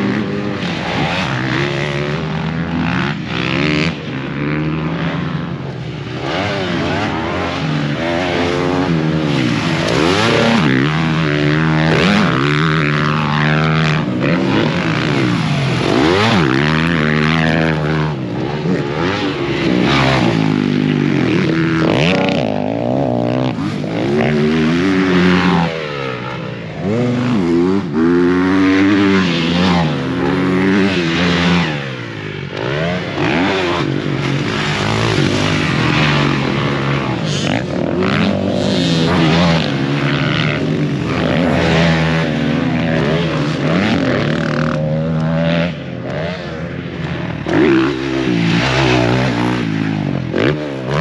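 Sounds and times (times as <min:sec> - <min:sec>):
motocross bike engine revving: 0:00.0 - 0:51.0.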